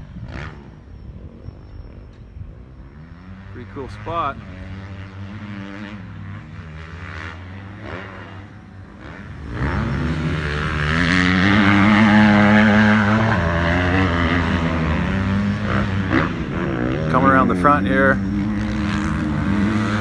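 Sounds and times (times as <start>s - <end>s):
motocross bike engines: 0.0s - 20.0s
motorbike engine revving: 0.0s - 20.0s.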